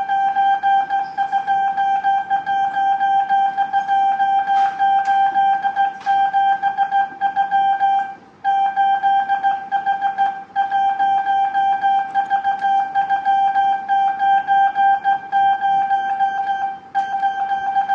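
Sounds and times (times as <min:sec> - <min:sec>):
morse code beeps: 0:00.0 - 0:17.9.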